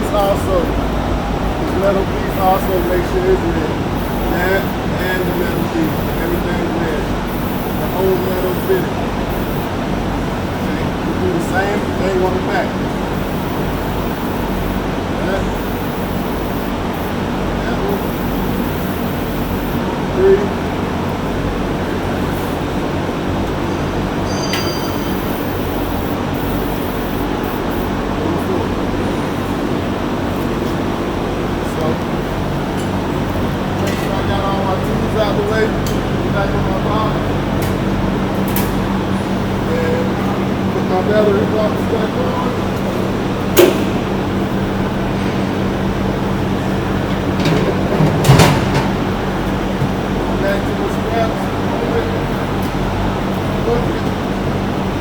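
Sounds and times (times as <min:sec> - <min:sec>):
shop machinery droning: 0:00.0 - 0:55.0.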